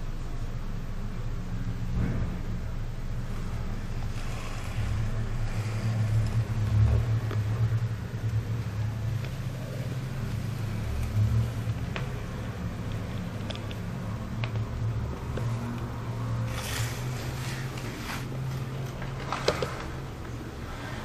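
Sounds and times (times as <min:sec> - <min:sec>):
low mechanical hum: 0:00.0 - 0:21.0
rumble: 0:00.0 - 0:21.0.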